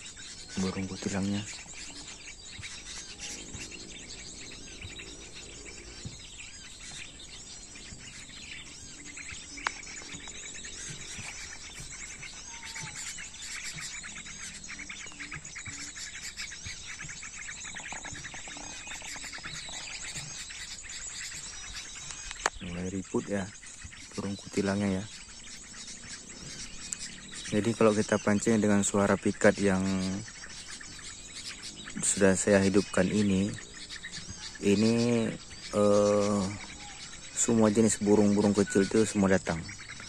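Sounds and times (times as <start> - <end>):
recorded bird lure call: 0.0 - 40.0
small birds chirping: 0.0 - 40.0.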